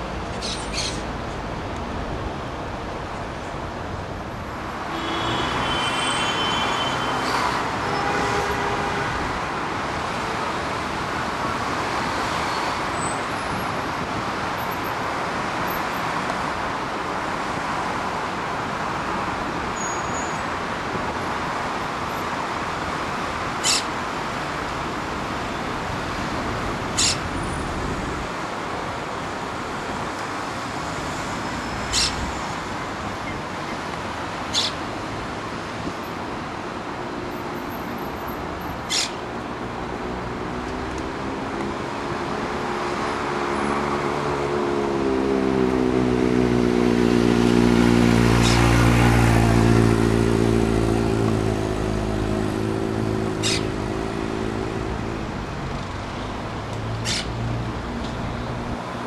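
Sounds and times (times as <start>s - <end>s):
outdoor background noise: 0.0s - 59.0s.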